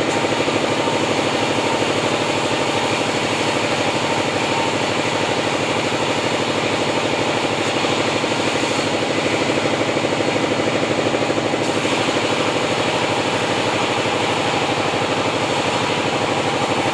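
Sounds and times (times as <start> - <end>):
band sawmill engine droning: 0.0 - 16.9.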